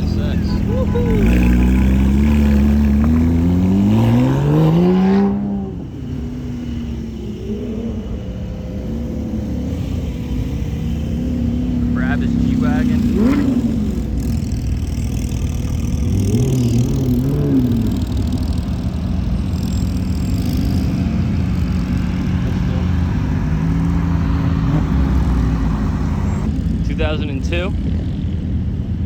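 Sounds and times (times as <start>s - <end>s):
car engine running: 0.0s - 27.8s.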